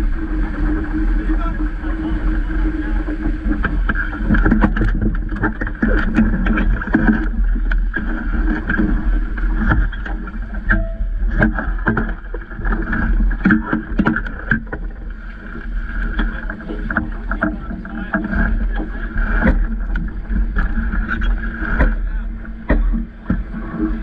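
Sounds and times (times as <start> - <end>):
water slapping against hull: 0.0 - 24.0
wind rumble on microphone: 0.0 - 24.0.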